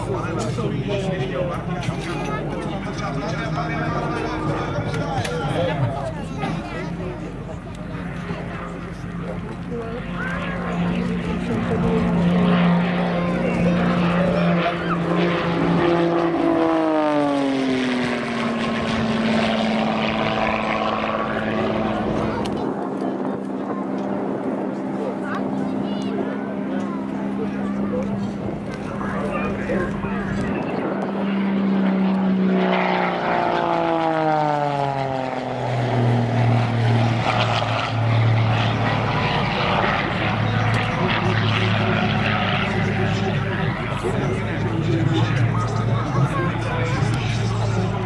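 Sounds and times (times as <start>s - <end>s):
plane engine and propeller: 0.0s - 48.0s.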